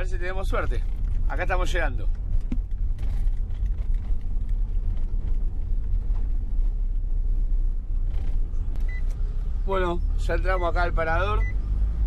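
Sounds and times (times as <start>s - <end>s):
road noise: 0.0s - 12.0s
van engine rumble: 0.0s - 12.0s.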